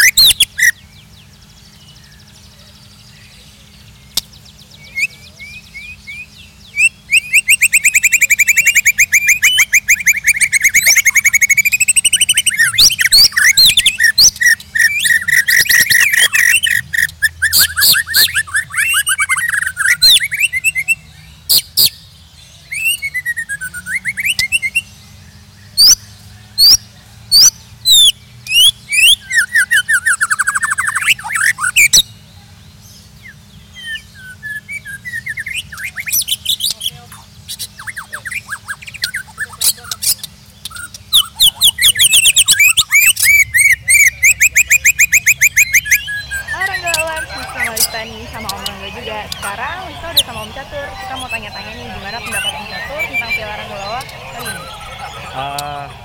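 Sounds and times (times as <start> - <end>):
songbird whistling and trilling: 0.0 - 0.8, 4.1 - 24.9, 25.7 - 26.0, 26.6 - 32.2, 33.2 - 36.9, 37.5 - 55.4.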